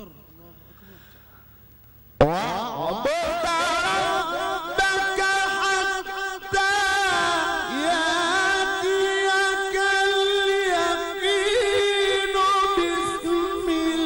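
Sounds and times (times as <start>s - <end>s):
man reciting melodically: 0.0s - 1.4s, 2.2s - 14.0s.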